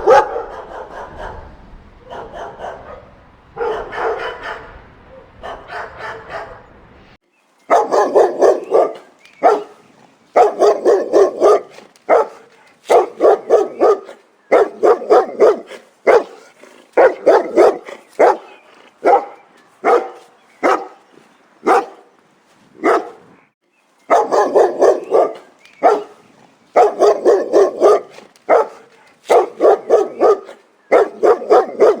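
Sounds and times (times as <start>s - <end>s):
dog barking loudly: 0.0s - 7.1s, 7.7s - 22.2s, 22.8s - 23.3s, 24.1s - 32.0s.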